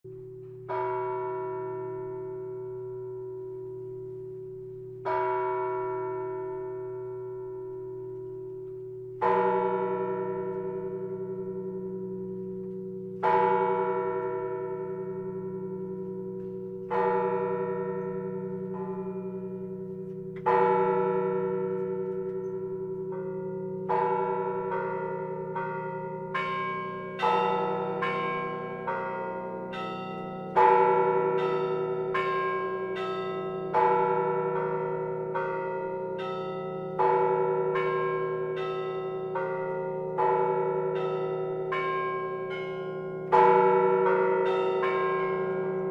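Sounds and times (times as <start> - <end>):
church bells ringing: 0.1 - 45.9.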